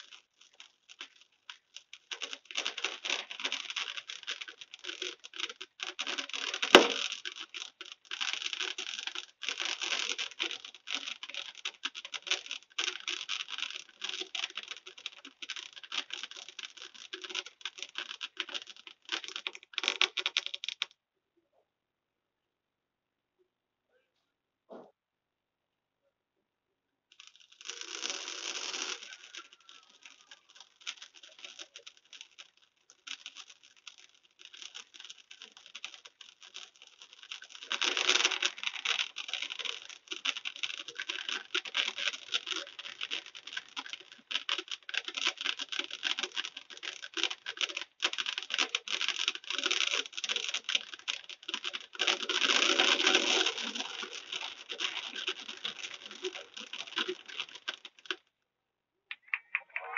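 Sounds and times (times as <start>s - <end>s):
fireworks crackling: 0.0s - 20.9s, 27.1s - 58.2s.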